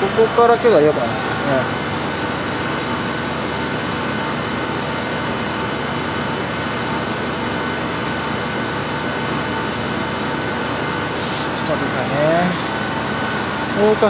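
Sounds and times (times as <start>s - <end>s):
machinery hum and hiss: 0.0s - 14.0s
steady whining tones: 0.0s - 14.0s.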